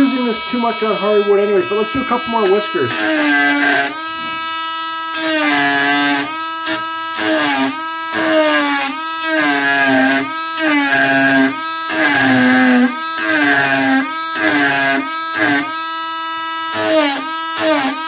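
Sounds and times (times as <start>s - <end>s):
rotary tool whining: 0.0s - 18.0s.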